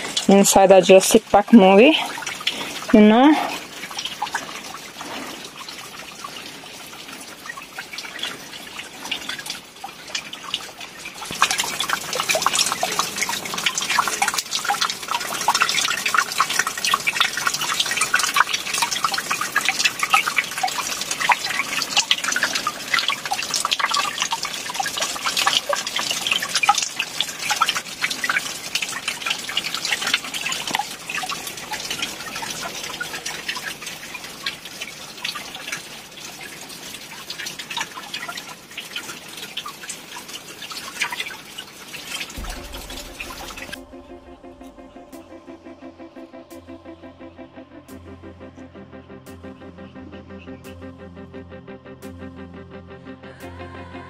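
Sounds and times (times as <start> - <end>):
water dripping into shallow water: 0.0 - 45.5.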